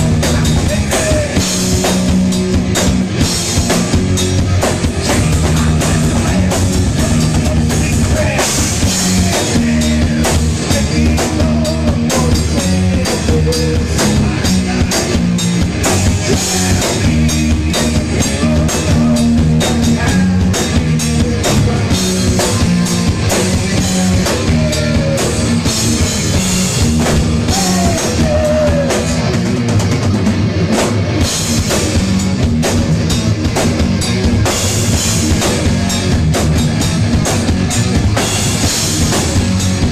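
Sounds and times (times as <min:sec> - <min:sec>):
bass guitar: 0:00.0 - 0:39.9
distorted electric guitar: 0:00.0 - 0:39.9
drum kit: 0:00.0 - 0:39.9.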